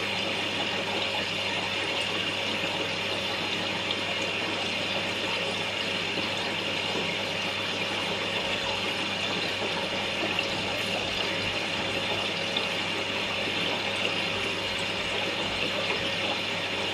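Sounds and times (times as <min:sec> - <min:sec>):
aquarium circulation hum: 0:00.0 - 0:16.9.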